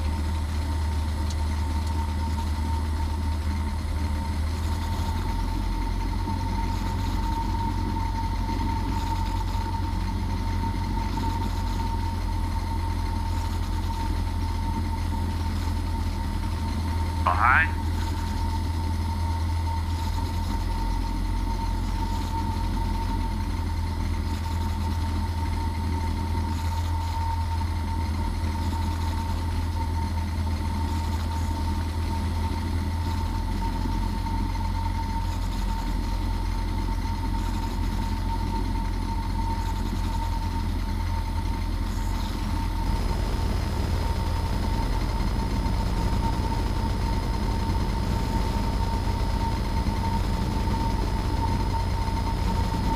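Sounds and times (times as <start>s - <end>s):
light aircraft engine droning: 0.0s - 52.9s.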